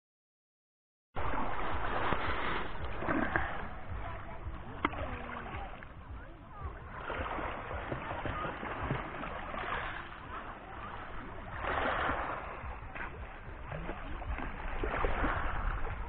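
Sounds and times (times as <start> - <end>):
small waves lapping on pebbles: 1.2 - 16.0.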